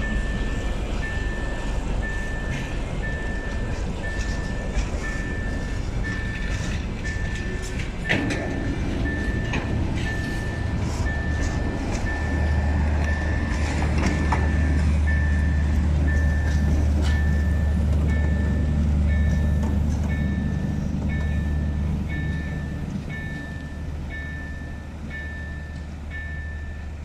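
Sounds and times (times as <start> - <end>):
level crossing signal beeping: 0.0 - 27.0
train diesel drone: 0.0 - 27.0.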